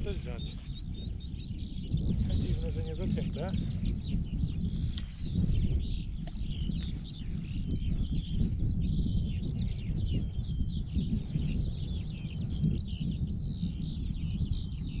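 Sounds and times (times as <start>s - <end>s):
low rumble: 0.0s - 15.0s
songbirds chirping: 0.0s - 15.0s.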